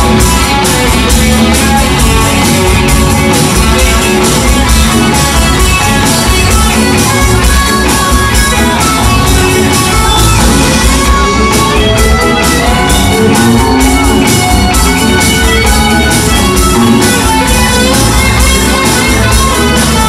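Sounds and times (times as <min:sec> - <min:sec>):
bass guitar: 0:00.0 - 0:20.0
drum kit beat: 0:00.0 - 0:20.0
electric guitars: 0:00.0 - 0:20.0.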